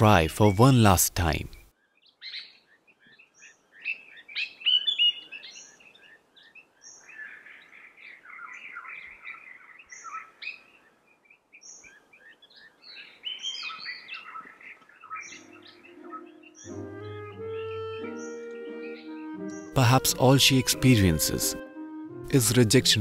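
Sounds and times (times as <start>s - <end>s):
birds chirping and squeaking: 0.0s - 20.7s.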